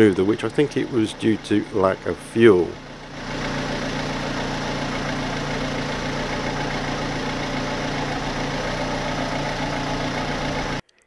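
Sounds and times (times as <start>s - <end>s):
car engine idling with rattle: 0.0s - 10.8s.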